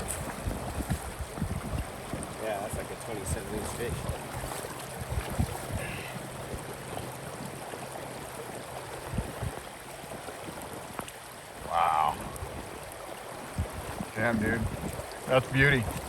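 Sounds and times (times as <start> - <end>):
river water running: 0.0 - 16.0.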